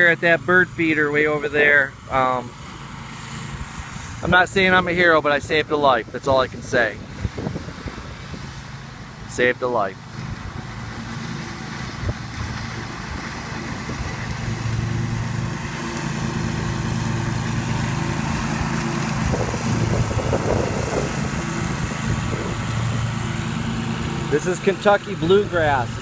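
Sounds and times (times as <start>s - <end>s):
lawn mower engine drone: 0.0s - 26.0s.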